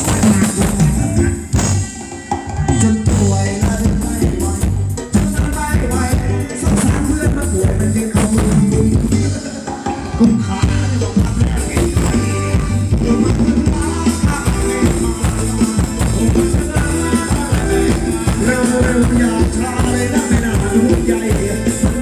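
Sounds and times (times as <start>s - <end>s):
live band dance music: 0.0s - 22.0s.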